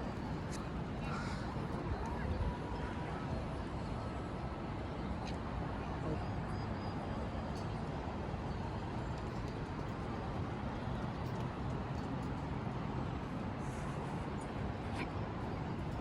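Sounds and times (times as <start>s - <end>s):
traffic: 0.0s - 16.0s.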